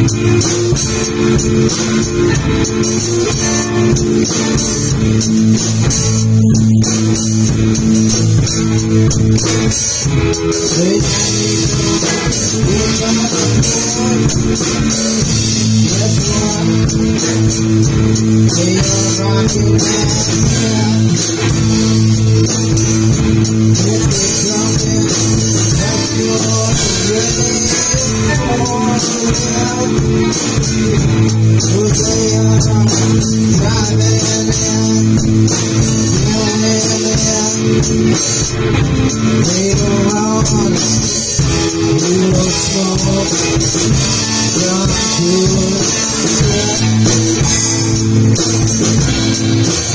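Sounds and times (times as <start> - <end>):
drum kit playing: 0.0 - 49.9
electric guitars: 0.0 - 49.9
person singing into microphone: 9.4 - 49.9.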